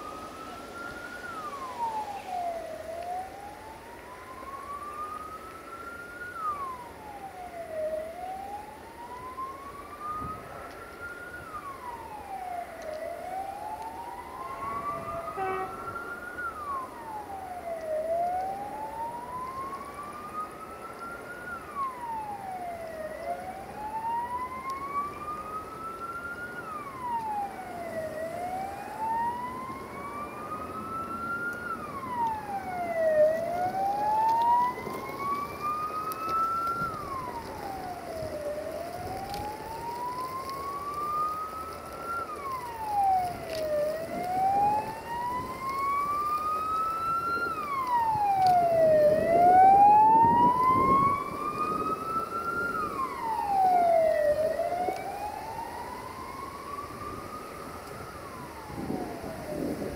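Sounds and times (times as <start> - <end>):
siren wailing: 0.0 - 59.9.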